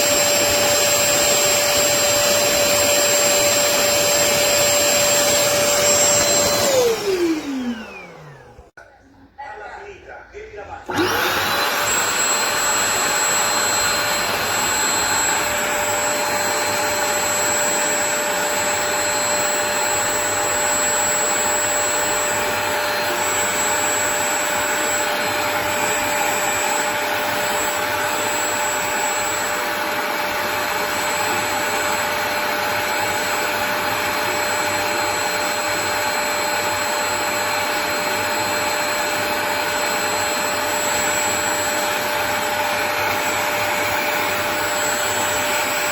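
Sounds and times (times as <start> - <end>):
vacuum motor whining: 0.0 - 8.8, 10.9 - 45.9.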